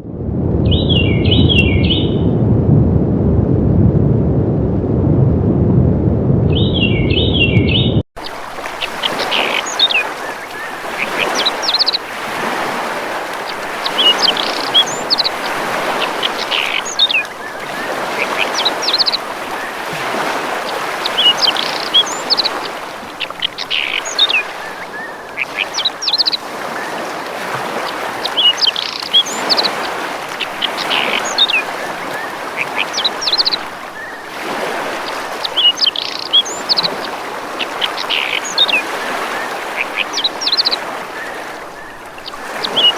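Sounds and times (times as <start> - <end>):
small birds chirping: 6.6 - 12.5, 13.2 - 42.9
water rushing: 8.2 - 42.9.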